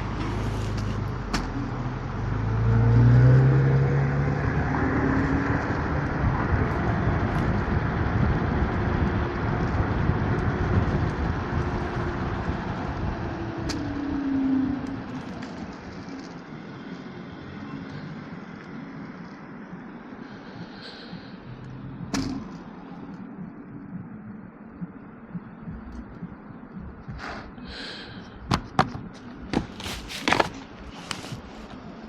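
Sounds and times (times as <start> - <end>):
car engines passing: 0.0 - 32.0
road noise rush: 0.0 - 32.0.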